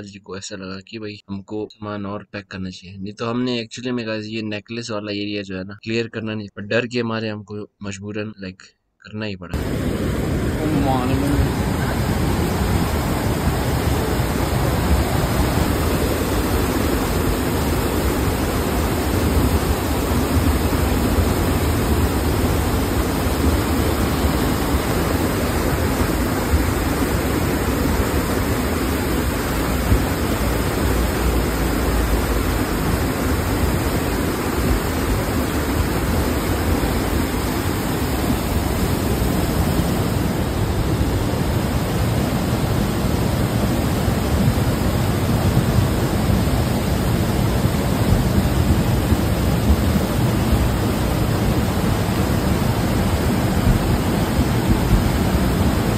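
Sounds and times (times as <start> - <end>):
river torrent rushing: 9.6 - 55.9.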